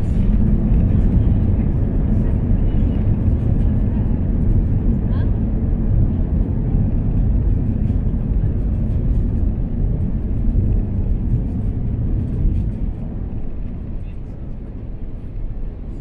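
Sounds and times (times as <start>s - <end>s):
jet airliner rumbling on runway: 0.0s - 16.0s.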